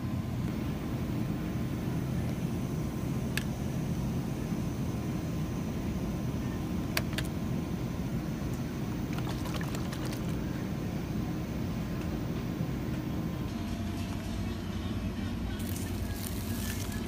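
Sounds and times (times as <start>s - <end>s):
refrigeration hum: 0.0s - 17.0s.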